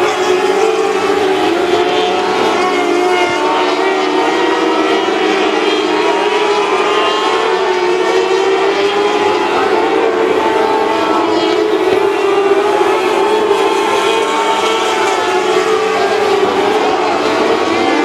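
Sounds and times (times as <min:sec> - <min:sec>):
race car engines at high revs: 0:00.0 - 0:18.0.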